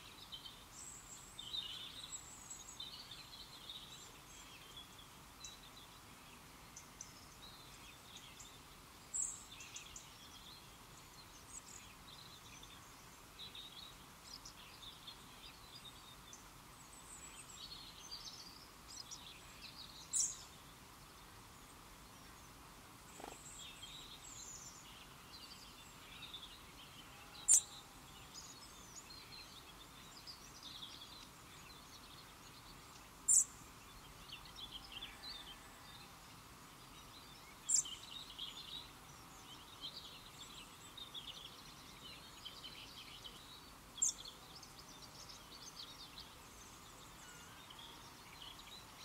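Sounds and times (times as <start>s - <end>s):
outdoor background hiss: 0.0s - 49.0s
small birds singing and chirping: 0.0s - 49.0s.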